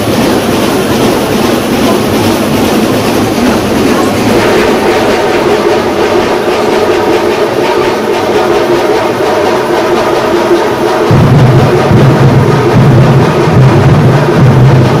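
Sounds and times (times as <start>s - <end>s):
street drum ensemble: 0.0s - 15.0s.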